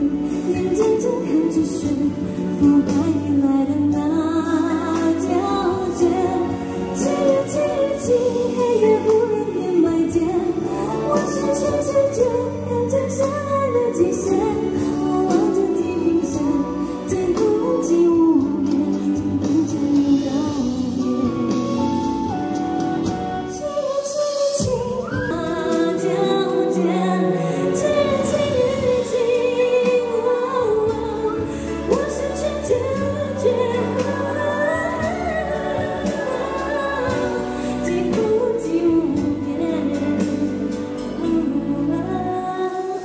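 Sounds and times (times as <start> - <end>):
instrumental accompaniment with bass: 0.0 - 43.0
woman singing into microphone: 0.0 - 43.0.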